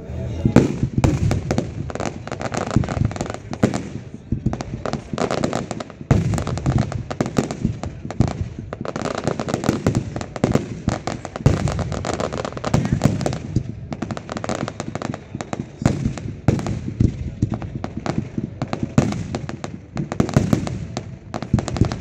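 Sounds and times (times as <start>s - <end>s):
heavy firework blasts: 0.1s - 22.0s
fireworks crackling and popping: 0.3s - 22.0s.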